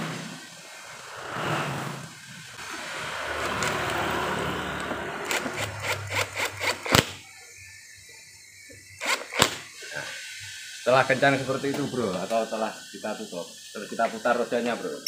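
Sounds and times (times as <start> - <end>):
rustling hiss: 0.0 - 15.0.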